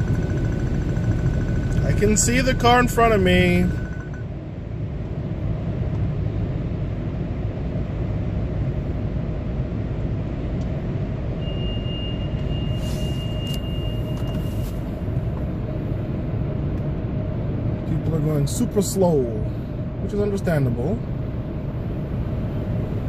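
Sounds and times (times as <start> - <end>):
car cabin rumble: 0.0 - 23.0.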